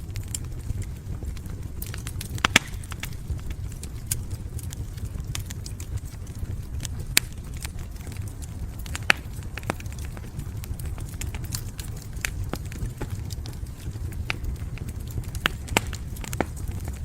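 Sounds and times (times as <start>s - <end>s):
fireplace fire crackling: 0.0s - 17.0s
sharp pops of fire: 0.0s - 17.0s.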